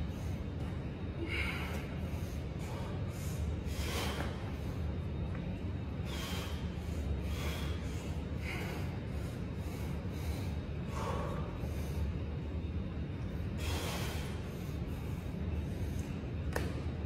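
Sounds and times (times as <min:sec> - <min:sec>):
man breathing hard: 0:00.0 - 0:05.1, 0:05.8 - 0:12.5, 0:13.3 - 0:16.2
steady low hum: 0:00.0 - 0:17.0.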